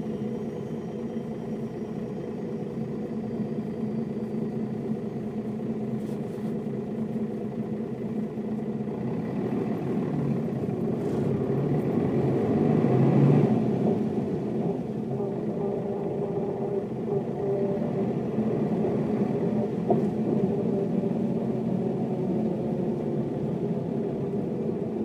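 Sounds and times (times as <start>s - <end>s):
bus diesel engine droning: 0.0s - 25.0s.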